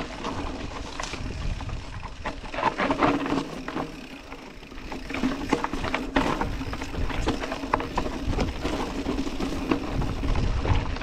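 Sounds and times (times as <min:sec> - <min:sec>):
bike clicking and rattling: 0:00.0 - 0:11.0
tyres crunching over loose stones: 0:00.0 - 0:11.0.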